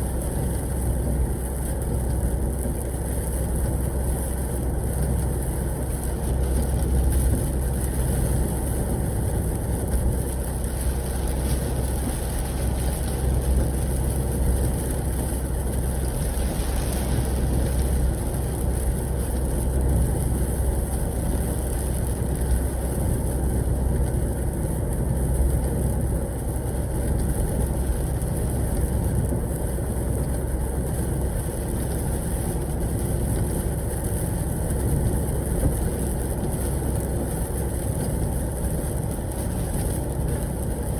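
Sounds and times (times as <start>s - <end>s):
truck engine droning: 0.0s - 40.9s.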